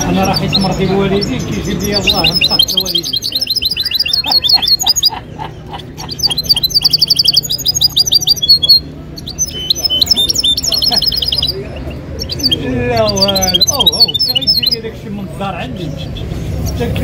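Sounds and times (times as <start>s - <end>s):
finch singing trills: 0.0s - 17.0s.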